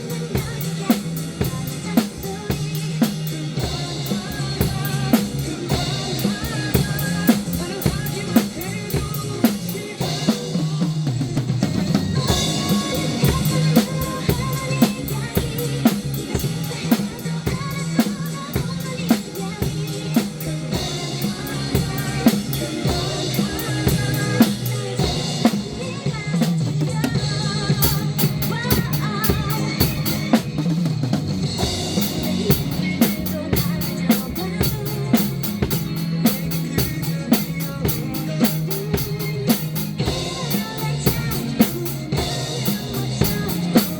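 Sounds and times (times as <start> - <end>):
drum kit playing a beat: 0.0 - 43.9.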